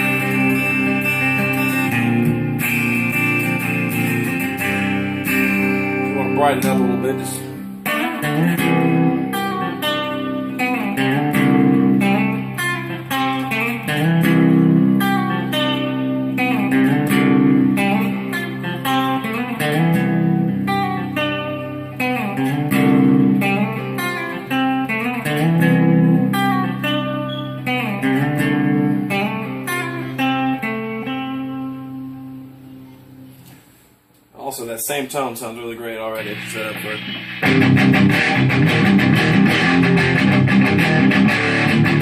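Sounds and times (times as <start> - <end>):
electric guitar strumming chords: 0.0 - 33.5, 36.1 - 42.0.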